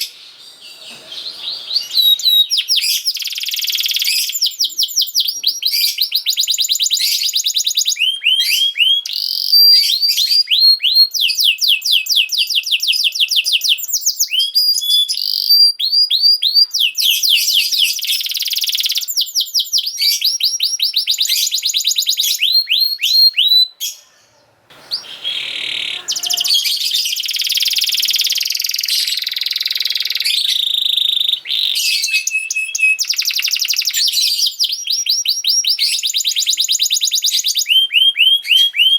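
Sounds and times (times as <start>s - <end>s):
canary trilling: 0.0s - 38.9s.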